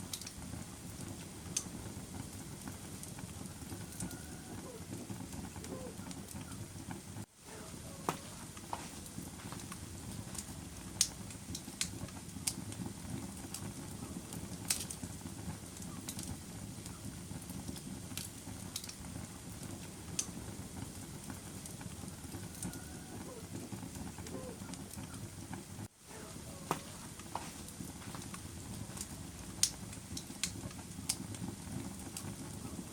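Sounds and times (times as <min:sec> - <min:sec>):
fire crackles and pops: 0:00.0 - 0:32.9
low rushing of flames: 0:00.0 - 0:32.9.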